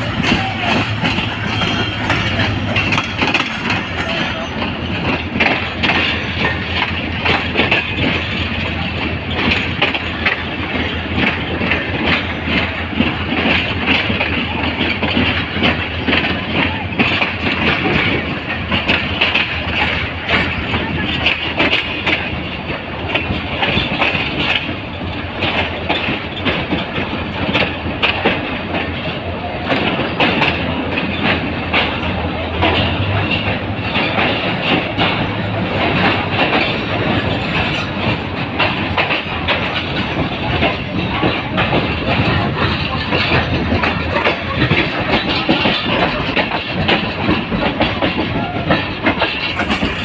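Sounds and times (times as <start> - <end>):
track clicks and clacks: 0.0 - 50.0
train wheels rumbling on rails: 0.0 - 50.0.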